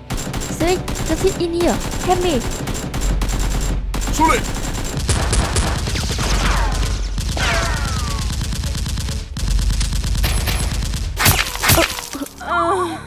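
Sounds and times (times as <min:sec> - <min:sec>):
rapid automatic gunfire: 0:00.0 - 0:12.0.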